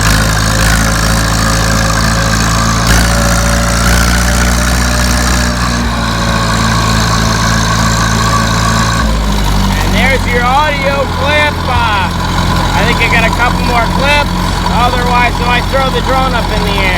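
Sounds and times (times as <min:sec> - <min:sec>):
tractor engine under heavy load: 0:00.0 - 0:16.9.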